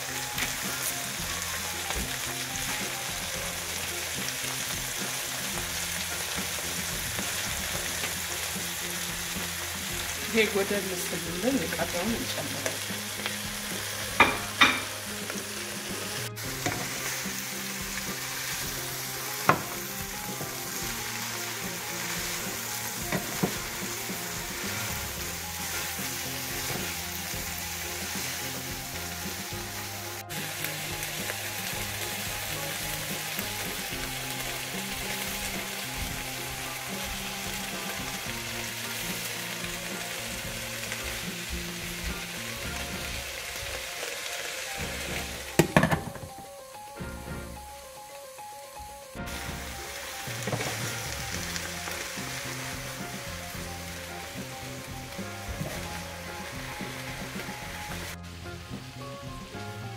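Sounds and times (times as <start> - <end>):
wooden spatula stirring: 0.0 - 46.2, 49.3 - 59.5
greens sizzling in oil: 0.0 - 59.9.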